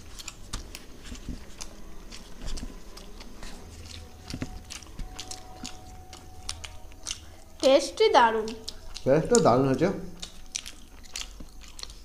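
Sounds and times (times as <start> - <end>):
people chewing and mouth smacks: 0.0 - 12.0.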